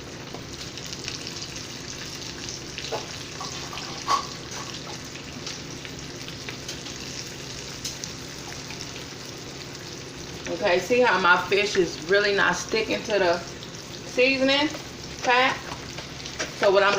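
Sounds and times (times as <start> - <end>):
fish frying in a pan: 0.0 - 16.9.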